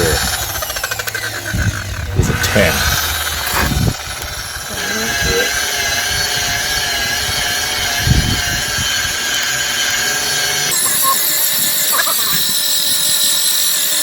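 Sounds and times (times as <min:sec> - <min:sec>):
electric polisher motor whine: 0:00.0 - 0:14.0.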